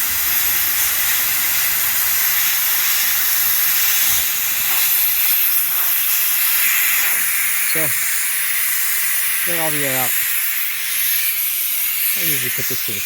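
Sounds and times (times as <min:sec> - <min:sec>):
air hissing out of tyre valve: 0:00.0 - 0:13.0.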